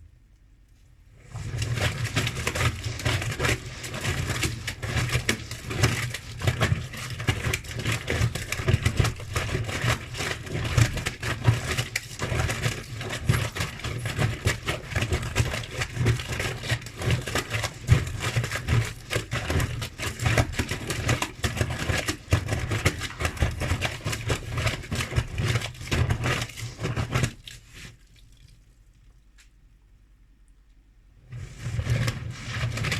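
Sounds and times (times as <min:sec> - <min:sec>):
washing machine drum crackling: 0:01.1 - 0:27.7, 0:31.3 - 0:32.9.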